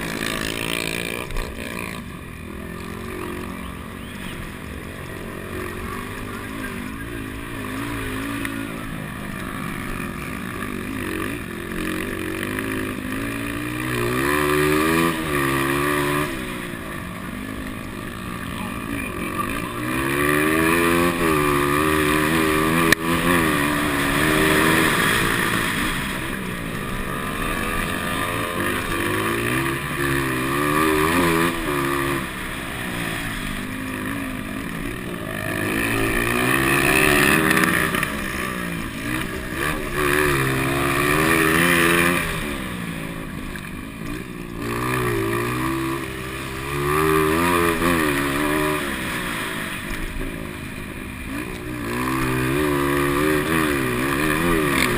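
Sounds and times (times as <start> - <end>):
motocross engines revving: 0.0 - 54.9.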